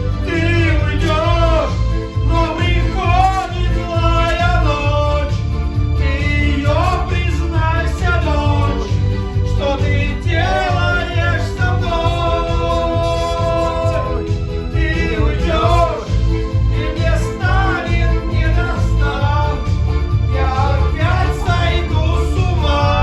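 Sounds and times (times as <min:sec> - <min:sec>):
backing music with bass beat: 0:00.0 - 0:23.0
man singing into a microphone: 0:00.3 - 0:05.4, 0:06.0 - 0:08.9, 0:09.5 - 0:16.1, 0:16.8 - 0:23.0.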